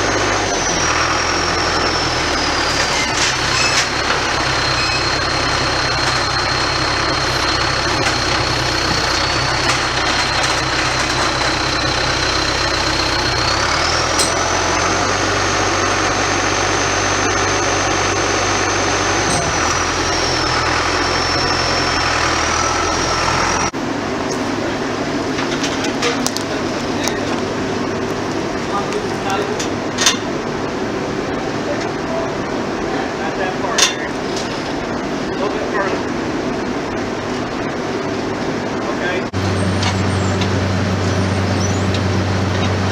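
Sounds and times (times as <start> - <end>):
heavy machinery engine running: 0.0 - 42.9
high whine: 0.0 - 42.9.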